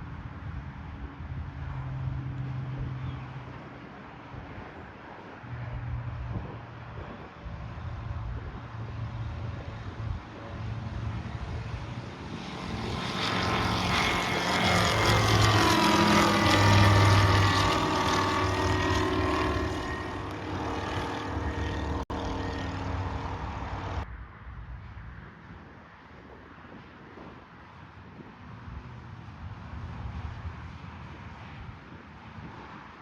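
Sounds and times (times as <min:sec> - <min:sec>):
light aircraft passing by: 0:00.0 - 0:33.0.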